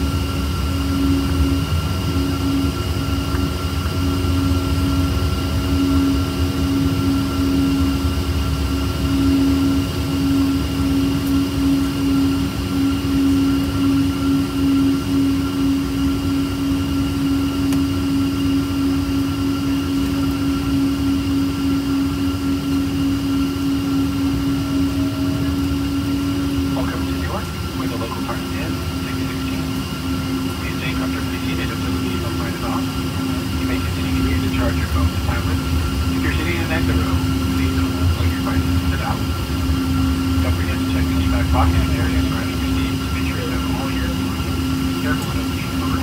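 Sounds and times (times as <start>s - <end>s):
jet engine drone in cabin: 0.0s - 46.0s.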